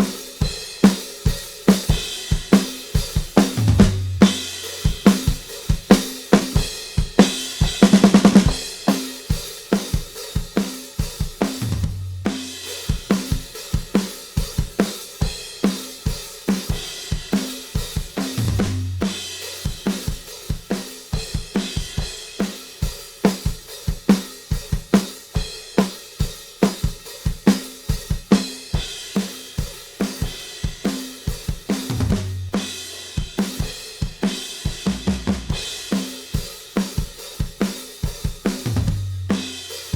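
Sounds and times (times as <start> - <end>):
drum kit playing a beat: 0.0 - 39.9.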